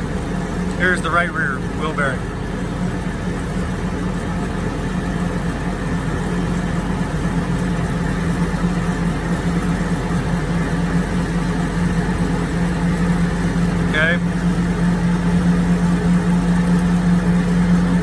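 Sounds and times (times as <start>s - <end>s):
motor vehicle low drone: 0.0s - 18.0s.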